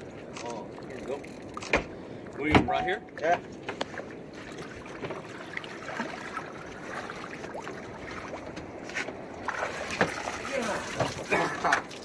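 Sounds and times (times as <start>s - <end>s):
water washing against hull: 0.0s - 12.0s.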